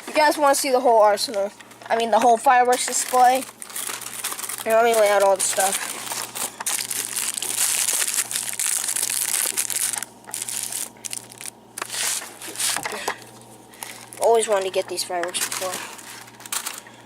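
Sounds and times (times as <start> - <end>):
packaging crinkling and rustling: 2.5 - 17.0.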